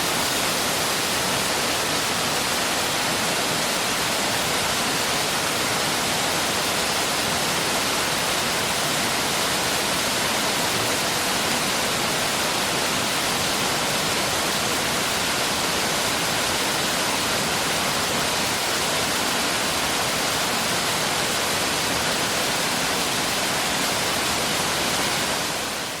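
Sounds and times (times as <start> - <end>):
mountain stream rushing: 0.0 - 26.0.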